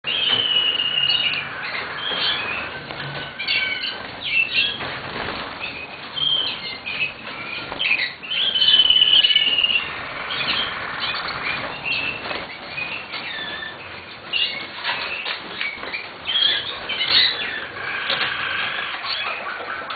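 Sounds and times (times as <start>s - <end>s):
canary singing: 0.0s - 19.9s.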